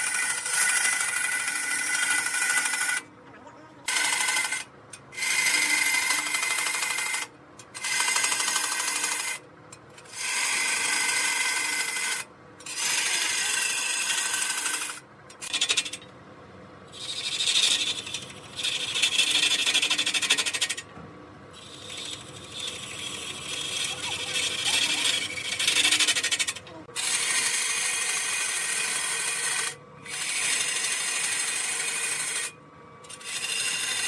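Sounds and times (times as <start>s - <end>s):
lathe tool cutting wood: 0.0s - 3.0s, 3.9s - 4.6s, 5.2s - 9.4s, 10.1s - 15.9s, 17.0s - 20.8s, 21.6s - 32.5s, 33.1s - 34.0s.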